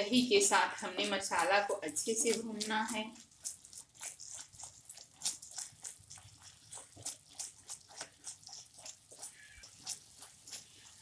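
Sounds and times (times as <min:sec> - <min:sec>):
paste squelching: 0:00.6 - 0:11.0
spatula scraping paste in a pan: 0:00.8 - 0:11.0.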